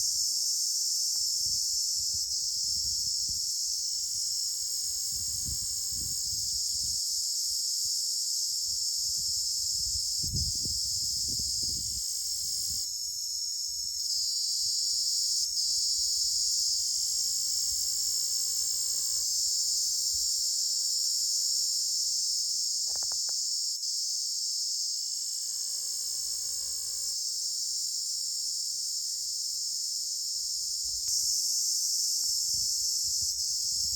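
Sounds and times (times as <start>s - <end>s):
cricket trilling: 0.0s - 33.9s.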